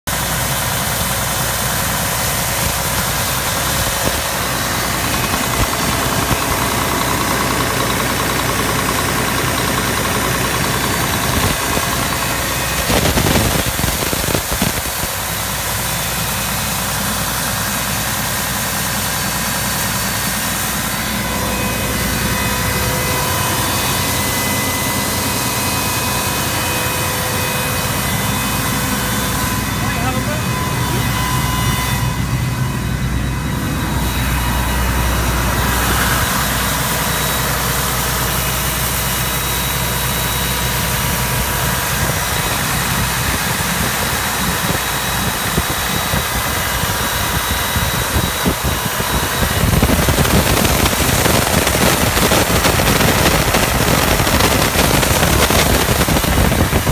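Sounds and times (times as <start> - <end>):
diesel engine running: 0.0 - 56.9
high whining tones: 1.9 - 56.9.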